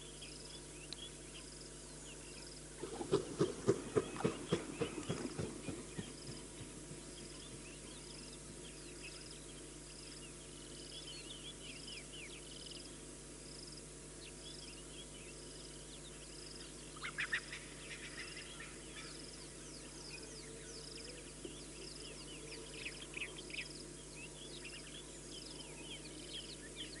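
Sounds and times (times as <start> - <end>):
birds chirping and twittering: 0.0 - 27.0
faint low hum: 0.0 - 27.0.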